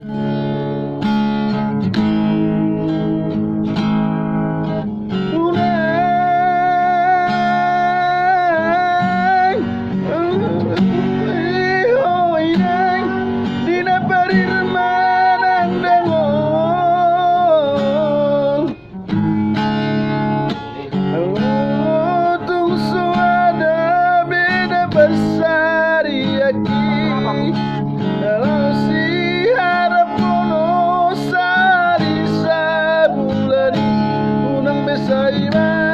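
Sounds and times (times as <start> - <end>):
person singing with vibrato: 5.1 - 19.0, 20.8 - 35.9.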